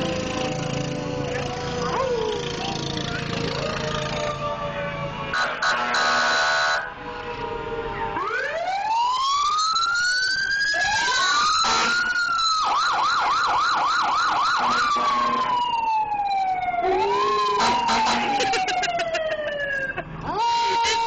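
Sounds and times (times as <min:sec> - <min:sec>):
fire truck siren wailing: 0:00.0 - 0:21.0.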